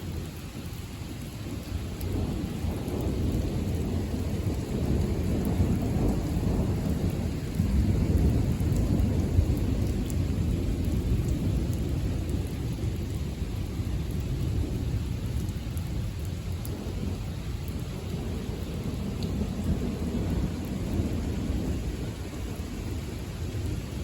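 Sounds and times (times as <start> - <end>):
steady rain: 0.0 - 24.0
thunder rumbling: 0.1 - 24.0.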